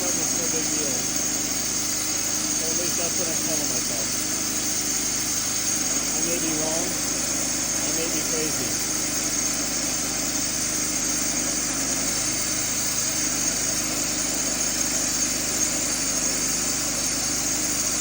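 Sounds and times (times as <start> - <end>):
sawmill engine running: 0.0 - 18.0.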